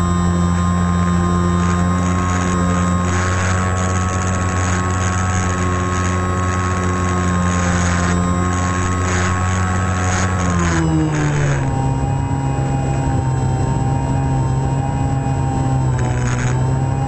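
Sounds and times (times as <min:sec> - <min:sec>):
model airplane motor and propeller: 0:00.0 - 0:17.0.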